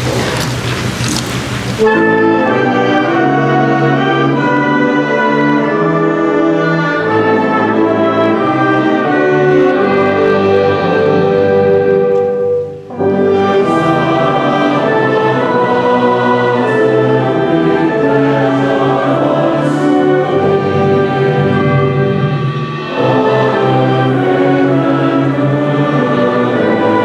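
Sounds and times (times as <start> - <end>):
choir singing: 1.8 - 27.0
orchestral accompaniment: 1.8 - 27.0.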